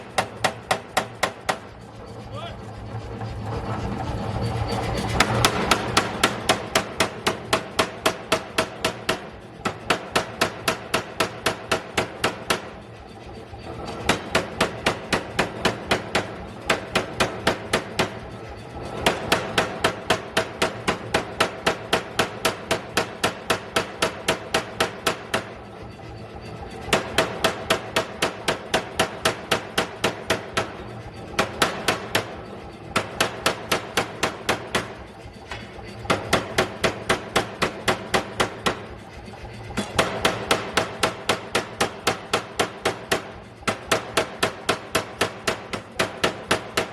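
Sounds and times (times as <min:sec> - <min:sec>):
pneumatic forging hammer striking: 0:00.0 - 0:02.3, 0:04.7 - 0:46.9.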